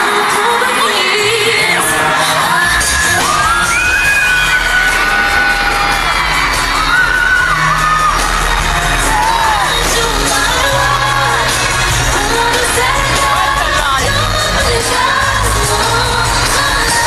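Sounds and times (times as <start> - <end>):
live pop music over pa: 0.0 - 17.0
heavy bass and beat: 2.9 - 17.0.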